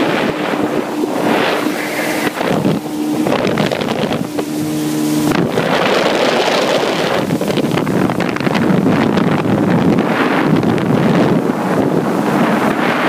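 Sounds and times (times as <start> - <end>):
jet ski engine droning: 0.0 - 13.0
wind buffeting microphone: 0.0 - 13.0.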